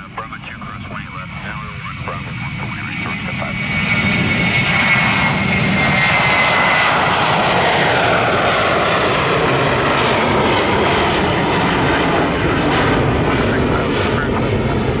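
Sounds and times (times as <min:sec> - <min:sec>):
jet airliner taking off: 0:00.0 - 0:15.0.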